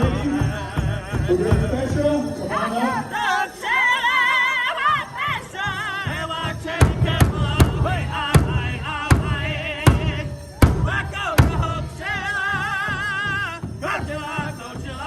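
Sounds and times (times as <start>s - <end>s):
big drum heavy beats: 0.0s - 2.4s, 5.2s - 15.0s
singers holding a high wavering song: 0.0s - 15.0s.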